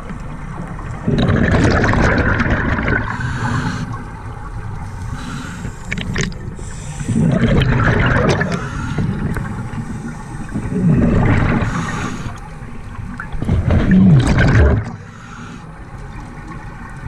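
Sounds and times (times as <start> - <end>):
low underwater rumble: 0.0 - 15.1
underwater exhaled bubbles rushing: 0.0 - 17.0.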